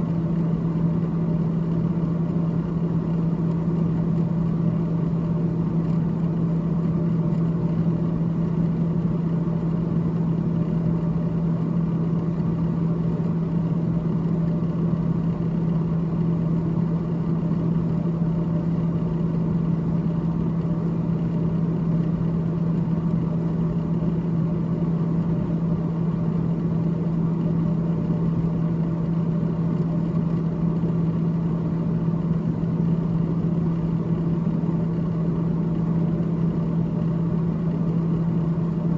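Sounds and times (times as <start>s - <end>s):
freezer fan humming and whirring: 0.0s - 38.9s.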